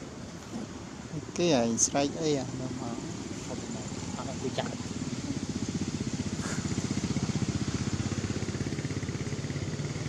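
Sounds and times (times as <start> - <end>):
small engine running: 1.8 - 10.0.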